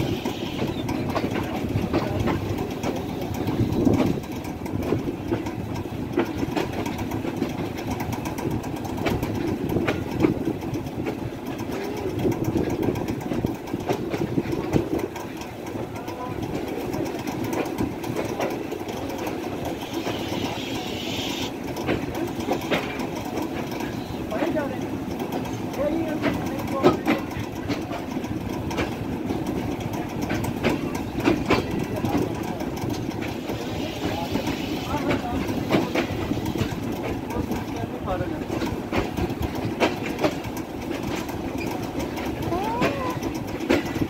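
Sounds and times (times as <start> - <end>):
train running gear rumble: 0.0 - 44.0
wheel clicks over rail joints: 0.1 - 20.7, 21.4 - 44.0.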